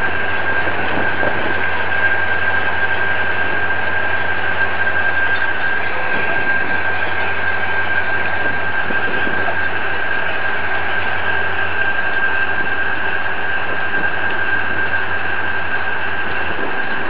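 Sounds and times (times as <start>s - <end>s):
engine drone: 0.0s - 17.0s
high whine: 0.0s - 17.0s.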